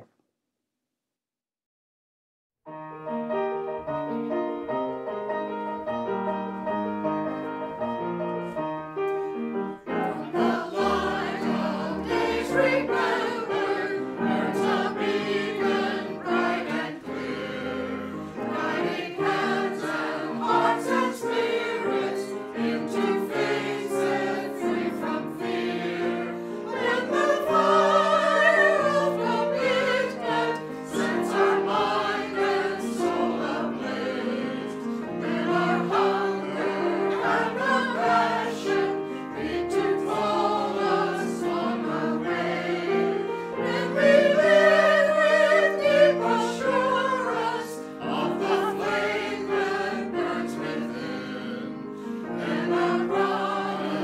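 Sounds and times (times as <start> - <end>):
instrumental accompaniment: 2.7 - 54.0
choir singing a hymn: 9.4 - 54.0.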